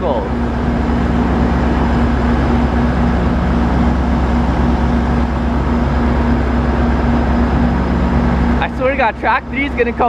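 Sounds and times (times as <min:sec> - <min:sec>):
diesel locomotive rumbling: 0:00.0 - 0:10.0.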